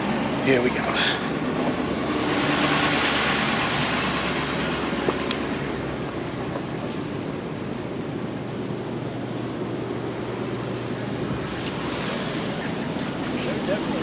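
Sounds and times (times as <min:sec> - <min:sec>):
road traffic: 0:00.0 - 0:14.0
wind: 0:00.0 - 0:14.0.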